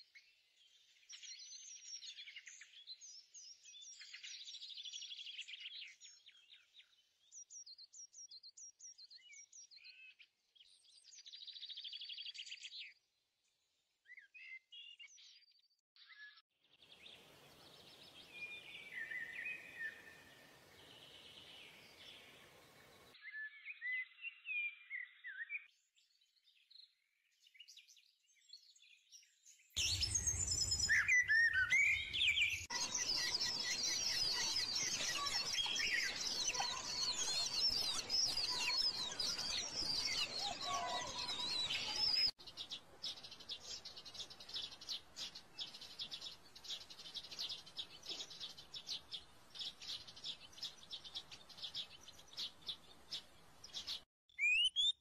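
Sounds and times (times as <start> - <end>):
small birds chirping: 0.0 - 13.1, 14.0 - 55.0.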